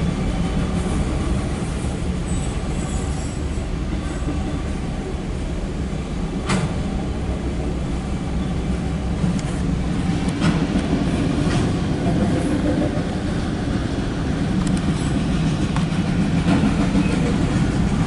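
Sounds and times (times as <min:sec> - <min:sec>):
freight train wheels rumbling on rail: 0:00.0 - 0:18.0.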